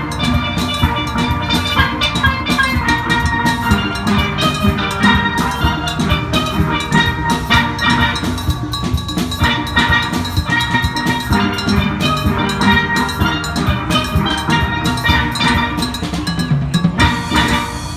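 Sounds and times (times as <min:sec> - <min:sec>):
drums and percussion: 0:00.0 - 0:17.9
steelpans playing melody: 0:00.0 - 0:17.9.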